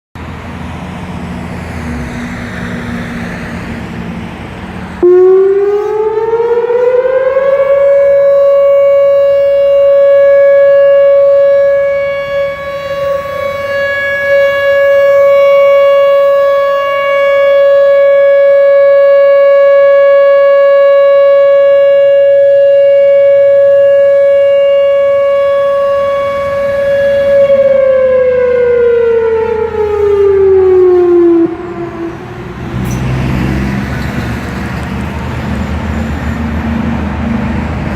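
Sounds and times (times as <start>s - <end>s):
outdoor warning siren: 0.2s - 37.9s.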